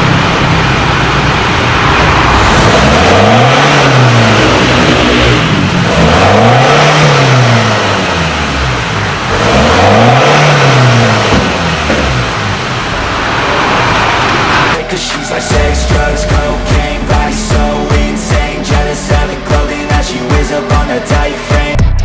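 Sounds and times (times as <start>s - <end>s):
diesel engine revving: 0.0s - 21.8s.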